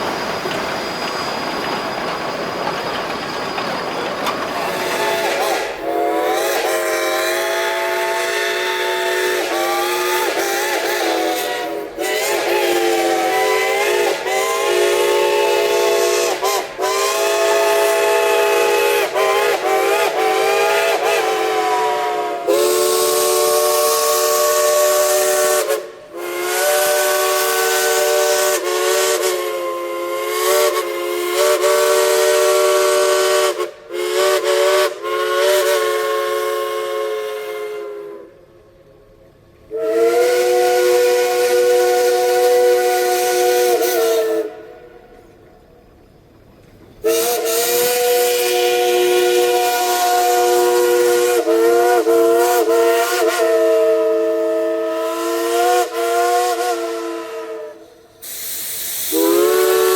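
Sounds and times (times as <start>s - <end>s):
steam hissing: 0.0s - 39.0s, 46.0s - 59.9s
steam locomotive whistle blasts: 4.5s - 45.2s, 47.0s - 59.9s.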